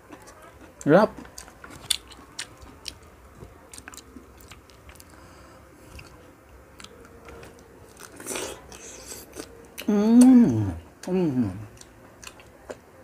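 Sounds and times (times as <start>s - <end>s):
person chewing: 0.0s - 12.8s.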